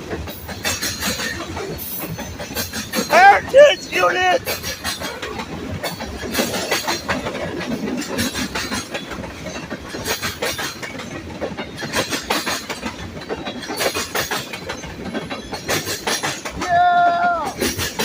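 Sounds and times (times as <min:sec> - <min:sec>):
freight train rumble: 0:00.0 - 0:18.0
train wheels clacking: 0:00.0 - 0:18.0.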